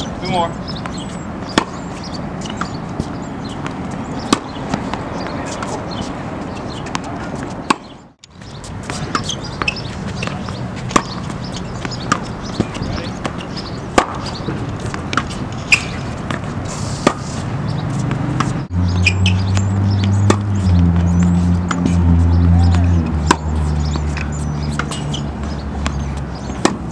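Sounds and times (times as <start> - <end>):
birds chirping: 0.0 - 26.9
tennis ball hit and bouncing: 0.0 - 26.9.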